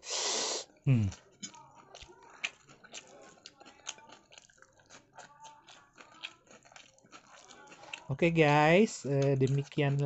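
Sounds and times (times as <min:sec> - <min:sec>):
chewing: 0:00.6 - 0:10.0.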